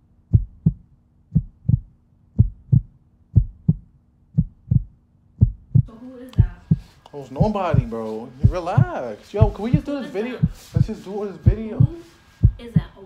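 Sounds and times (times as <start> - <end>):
faint steady hum: 0.0 - 13.0
heartbeat thumps: 0.3 - 13.0.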